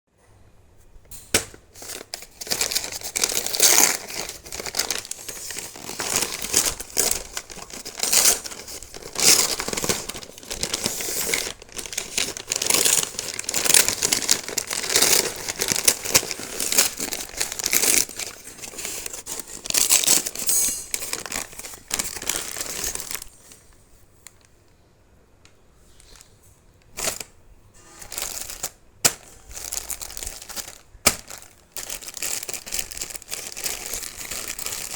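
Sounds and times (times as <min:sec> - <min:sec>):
packaging crinkling and tearing: 0:01.3 - 0:24.6, 0:25.9 - 0:27.3, 0:27.9 - 0:34.9.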